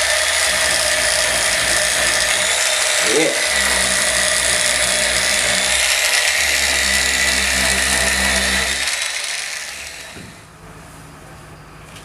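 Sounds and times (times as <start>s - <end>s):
power tool whining: 0.0s - 10.5s.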